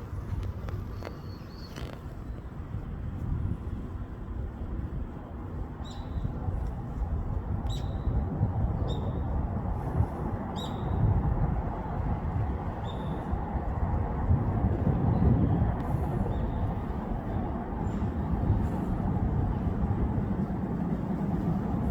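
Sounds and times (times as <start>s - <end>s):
low city rumble: 0.0s - 21.9s.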